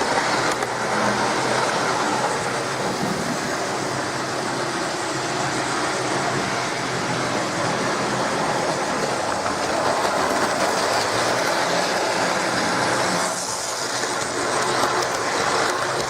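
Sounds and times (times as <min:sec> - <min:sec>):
model train motor whirring: 0:00.0 - 0:16.0
wheels rattling over rails: 0:00.0 - 0:16.0.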